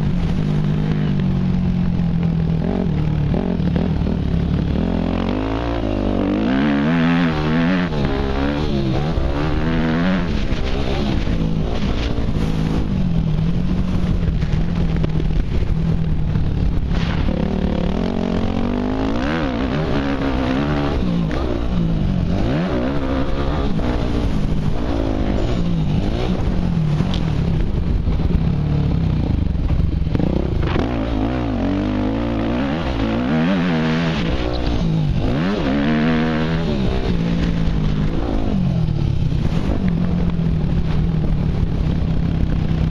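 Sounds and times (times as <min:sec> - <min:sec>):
dirt bike engine revving: 0:00.0 - 0:28.3, 0:28.9 - 0:42.9.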